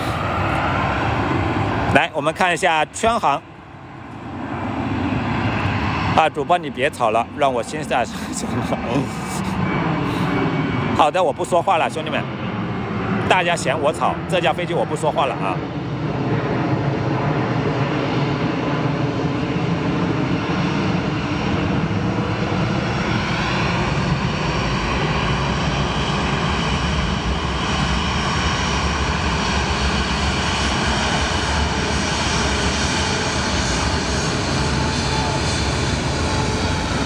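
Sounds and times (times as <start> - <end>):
jet engines roaring and whining: 0.0 - 37.0.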